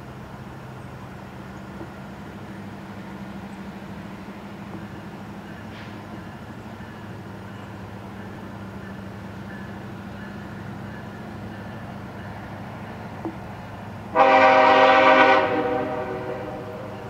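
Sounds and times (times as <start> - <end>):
diesel locomotive drone: 0.0 - 17.0.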